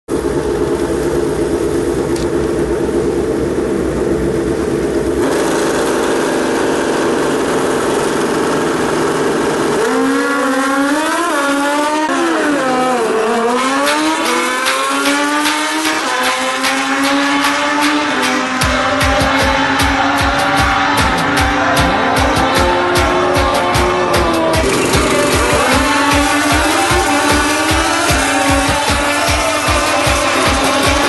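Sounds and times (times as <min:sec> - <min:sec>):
motorcycle engines running: 0:00.1 - 0:31.0
motorcycles accelerating hard: 0:00.2 - 0:31.0.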